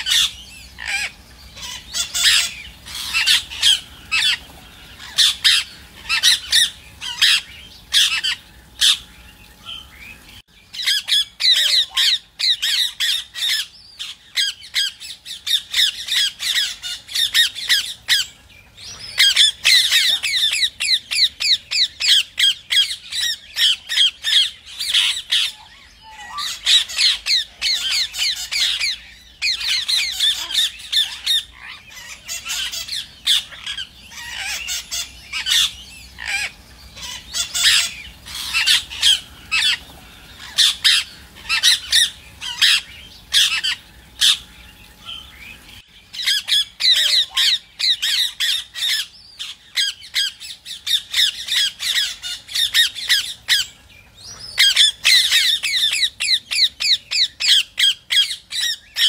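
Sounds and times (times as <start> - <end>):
parakeets squawking: 0.0 - 59.0.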